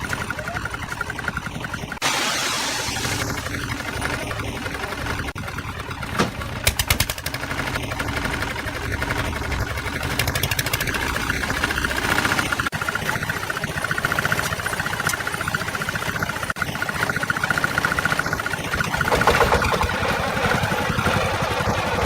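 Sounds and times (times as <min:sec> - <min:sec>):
construction machinery engine running: 0:00.0 - 0:22.0.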